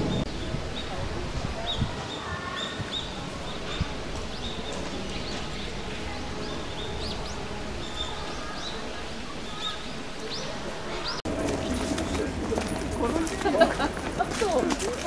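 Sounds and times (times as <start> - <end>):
small birds chirping: 0.0 - 12.7
outdoor background noise: 0.0 - 15.0.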